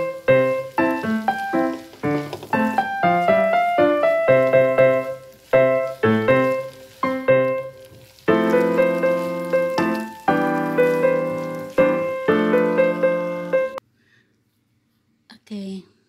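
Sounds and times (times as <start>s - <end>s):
piano music: 0.0s - 13.8s.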